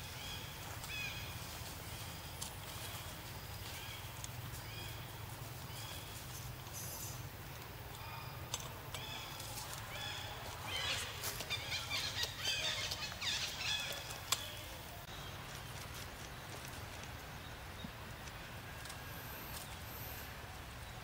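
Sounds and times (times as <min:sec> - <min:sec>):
low outdoor hum: 0:00.0 - 0:21.0.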